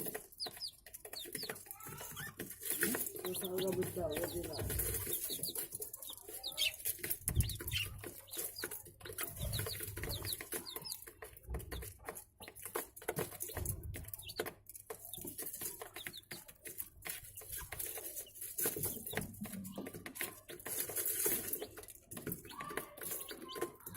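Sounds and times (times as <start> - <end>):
budgerigars chirping and chattering: 0.0 - 23.9.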